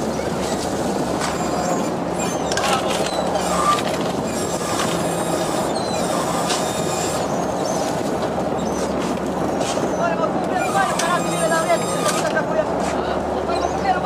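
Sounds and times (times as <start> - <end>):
boat engine and crane machinery: 0.0 - 14.0
short high squeaks: 0.1 - 8.0, 8.6 - 12.4.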